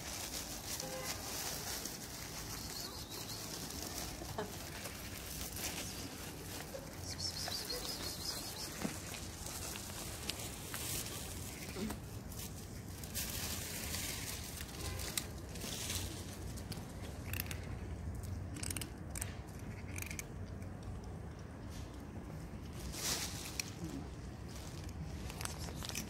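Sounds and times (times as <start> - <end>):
cats crunching dry kibble: 0.0 - 26.0.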